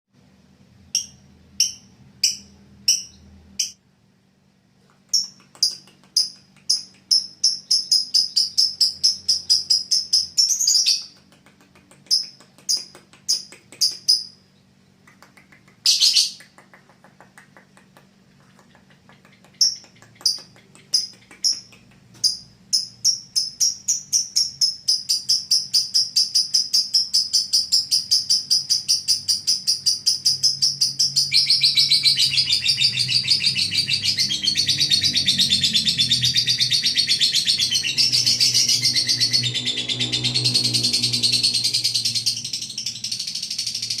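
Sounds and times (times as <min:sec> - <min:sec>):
lovebird chirping and trilling: 0:00.9 - 0:03.8, 0:05.1 - 0:11.2, 0:12.0 - 0:14.7, 0:15.8 - 0:16.5, 0:19.1 - 0:44.0.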